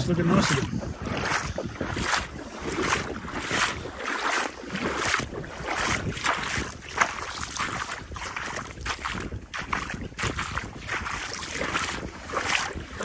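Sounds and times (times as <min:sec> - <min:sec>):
wind buffeting microphone: 0:00.0 - 0:13.0
footsteps walking: 0:00.2 - 0:13.0.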